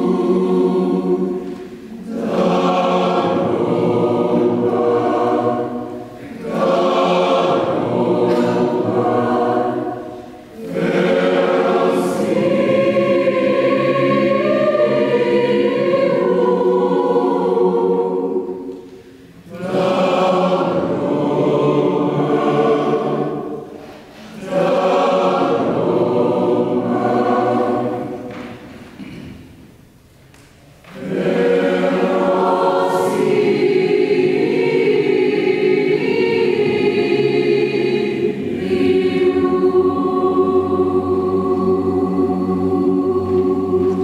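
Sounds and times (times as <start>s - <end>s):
mixed choir singing: 0.0s - 29.8s, 30.8s - 44.0s.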